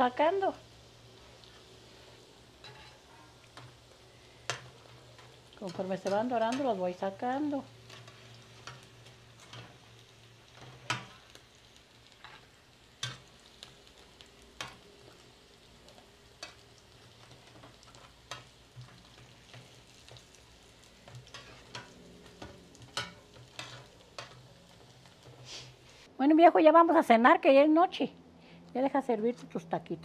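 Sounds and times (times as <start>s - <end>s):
food sizzling in oil: 0.0s - 26.1s.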